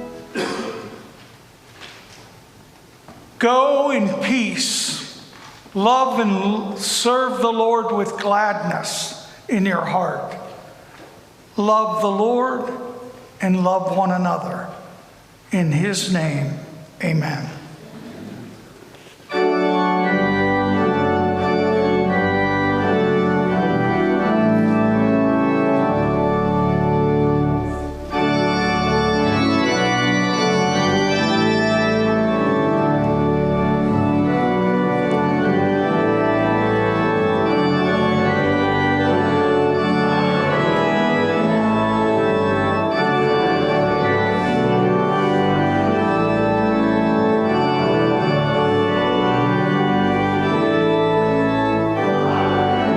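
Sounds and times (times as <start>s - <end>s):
church organ chords: 0.0s - 1.2s, 3.4s - 10.8s, 11.4s - 17.8s, 19.3s - 52.9s.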